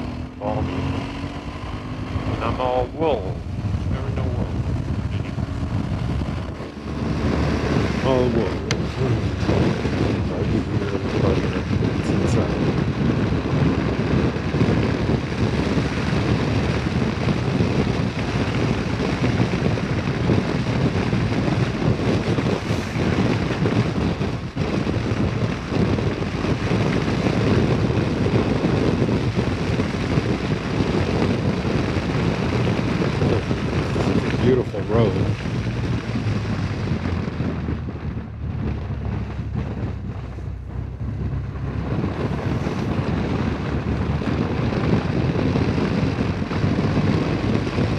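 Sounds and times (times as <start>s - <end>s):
motorcycle engine: 0.0s - 47.9s
wind rush on microphone: 0.0s - 47.9s.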